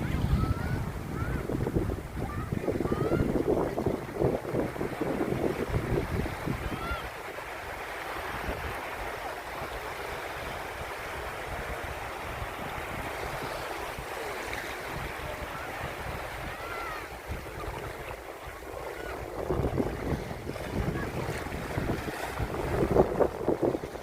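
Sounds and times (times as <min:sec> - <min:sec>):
sea waves washing on beach: 0:00.0 - 0:24.0
wind buffeting microphone: 0:00.0 - 0:24.0.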